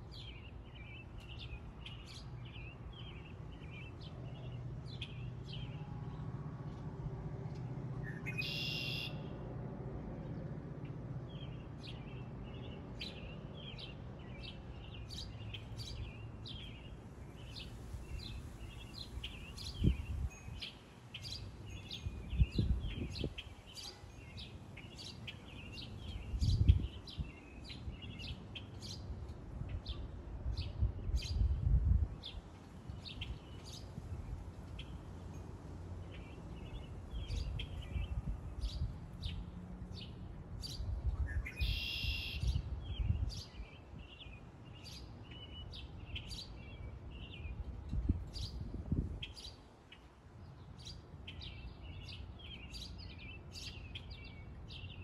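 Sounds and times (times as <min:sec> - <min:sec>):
small birds chirping: 0:00.0 - 0:06.2, 0:11.3 - 0:55.0.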